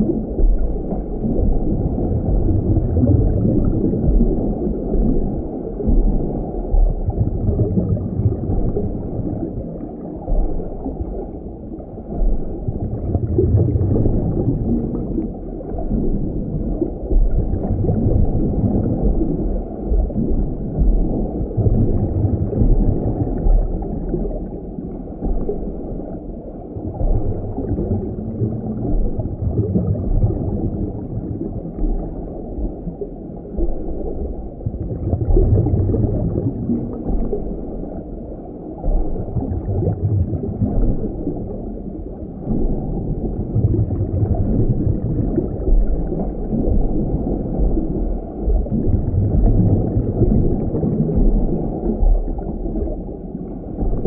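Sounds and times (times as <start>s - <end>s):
underwater rumbling wash of water: 0.0s - 54.0s.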